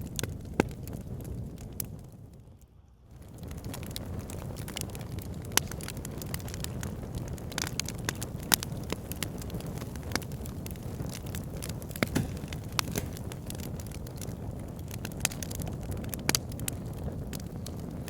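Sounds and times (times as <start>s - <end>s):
fire crackling and popping: 0.0s - 18.0s
low rumble of flame: 0.0s - 18.0s.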